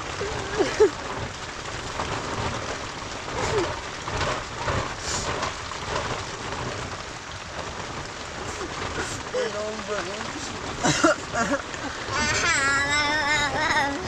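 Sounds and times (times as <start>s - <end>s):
storm wind and precipitation hiss: 0.0s - 14.0s.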